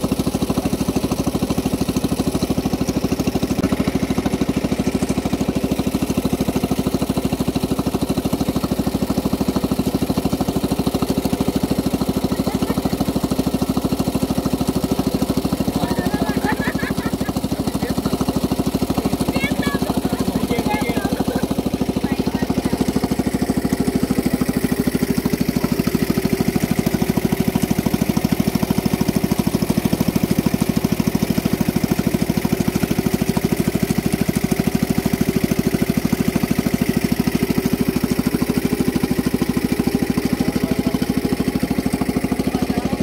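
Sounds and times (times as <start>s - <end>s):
small boat motor puttering: 0.0s - 43.0s.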